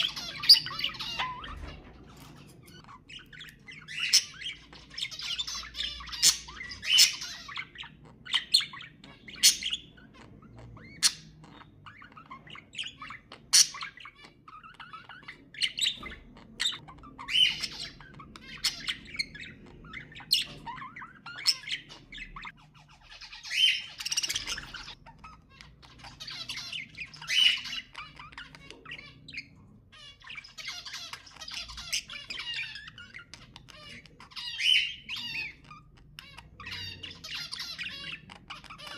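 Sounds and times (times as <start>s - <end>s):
budgerigars chirping: 0.0s - 38.9s
budgerigars squawking: 0.0s - 38.9s.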